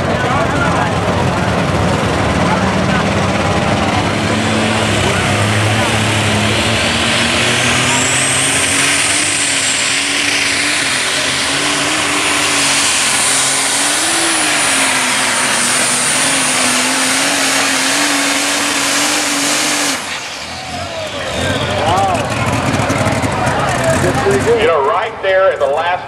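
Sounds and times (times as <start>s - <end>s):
tractor engine with high whine: 0.0s - 26.0s.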